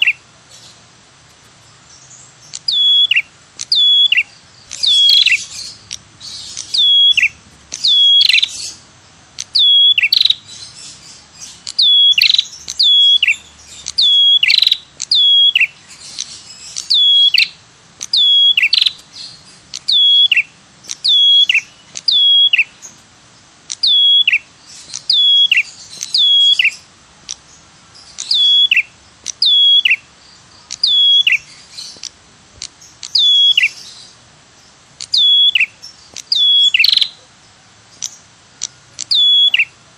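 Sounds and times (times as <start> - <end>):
bird calling sharp trills: 0.0 - 0.8, 1.9 - 23.0, 23.6 - 39.8.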